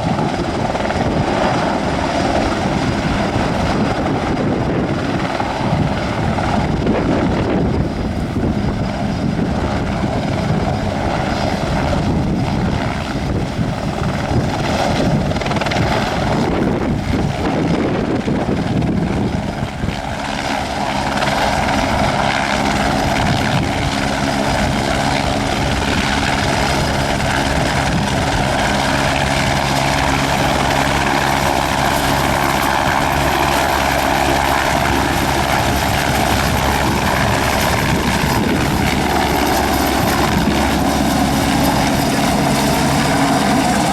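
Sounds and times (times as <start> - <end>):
helicopter rotor noise: 0.0 - 43.9
high turbine whine: 0.0 - 43.9.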